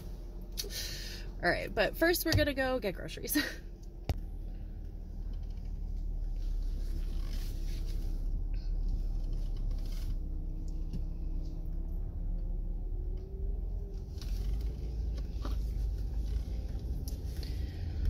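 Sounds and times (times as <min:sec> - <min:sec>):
vehicle engine rumble from inside: 0:00.0 - 0:18.0.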